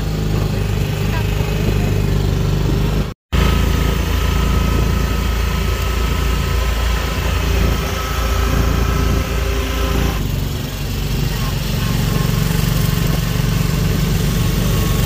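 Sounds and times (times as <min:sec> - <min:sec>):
auto-rickshaw engine running: 0:00.0 - 0:15.0
road noise: 0:00.0 - 0:15.0.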